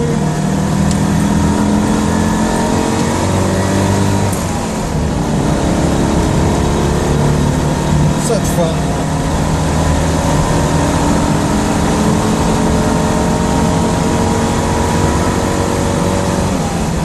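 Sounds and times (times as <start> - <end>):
car engine buzzing: 0.0 - 17.0
road and wind noise: 0.0 - 17.0.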